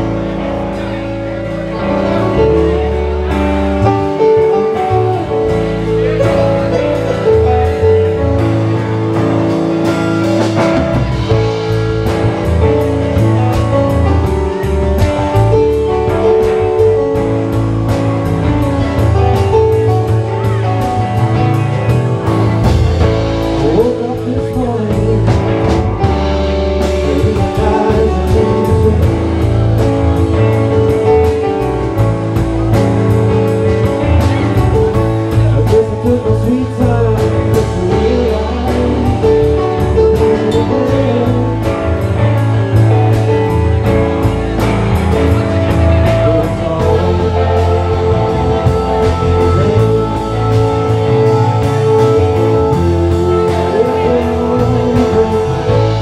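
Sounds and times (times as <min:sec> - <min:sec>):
drum kit: 0:00.0 - 0:56.0
electric guitar: 0:00.0 - 0:56.0
keyboards: 0:00.0 - 0:56.0
low bass line: 0:00.0 - 0:56.0.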